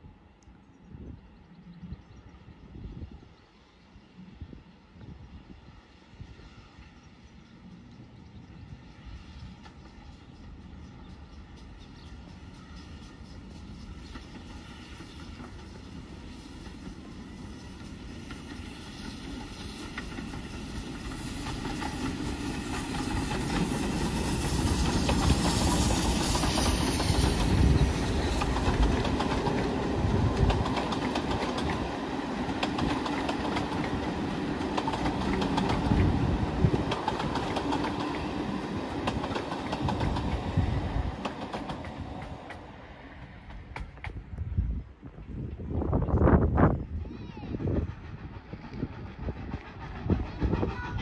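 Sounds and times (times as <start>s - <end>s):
passenger train passing: 0.0s - 51.0s.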